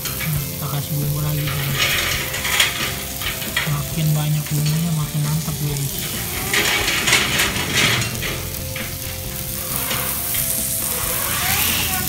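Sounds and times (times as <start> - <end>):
skewers sizzling on a griddle: 0.0 - 12.0.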